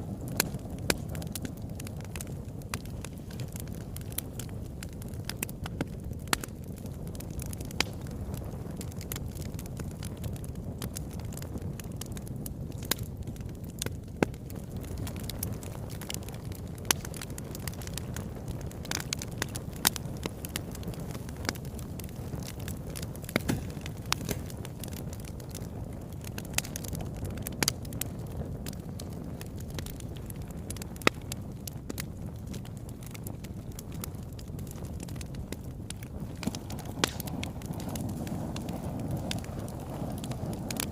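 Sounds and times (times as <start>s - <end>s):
fire crackling and popping: 0.0s - 40.9s
low rush of flames: 0.0s - 40.9s.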